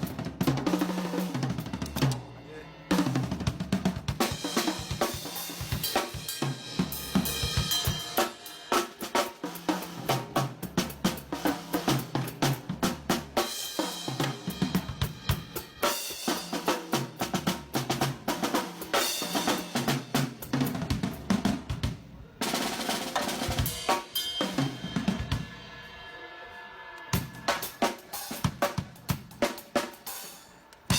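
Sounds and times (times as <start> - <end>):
drum kit played fast: 0.0 - 26.2, 27.1 - 30.9.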